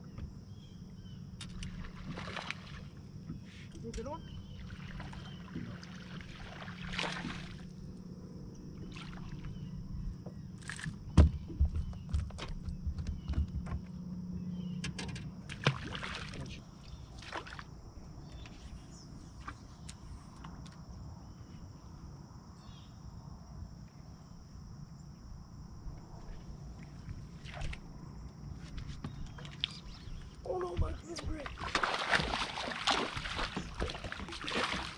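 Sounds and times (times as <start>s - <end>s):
water sloshing against boat hull: 0.0s - 21.6s, 25.8s - 34.9s.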